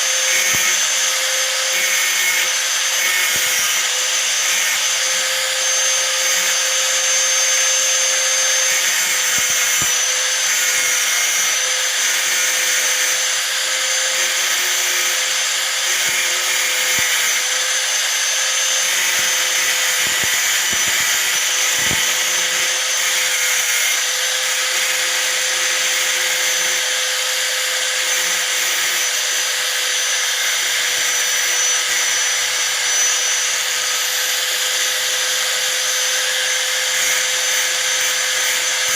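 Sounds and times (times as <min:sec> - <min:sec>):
angle grinder grinding metal: 0:00.0 - 0:38.9.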